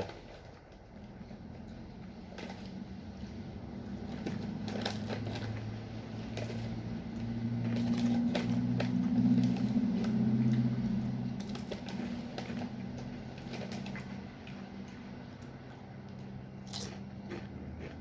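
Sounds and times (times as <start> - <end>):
low steady hum: 0.0 - 18.0
potato chips being chewed: 0.0 - 18.0.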